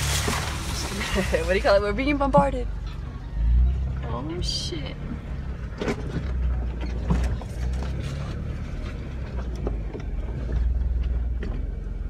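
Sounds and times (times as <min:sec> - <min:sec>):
vehicle rumble from inside cabin: 0:00.0 - 0:12.0.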